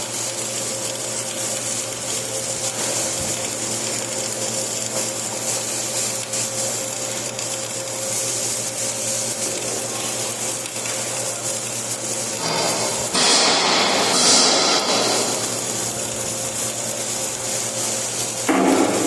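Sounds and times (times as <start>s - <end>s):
electrical hum: 0.0s - 19.0s
welding arc crackling: 0.0s - 19.0s.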